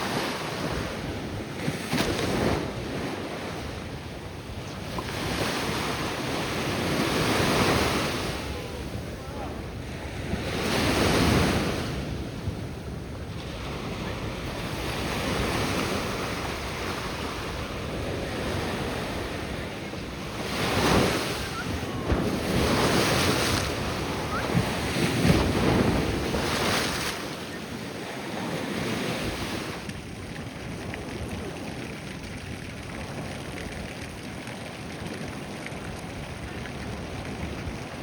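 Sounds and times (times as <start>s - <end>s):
ocean surf breaking: 0.0s - 31.9s
wind buffeting microphone: 0.0s - 38.0s.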